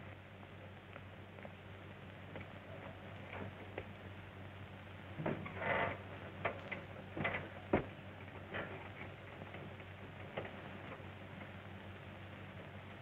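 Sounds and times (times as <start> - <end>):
old film soundtrack hum: 0.0 - 13.0.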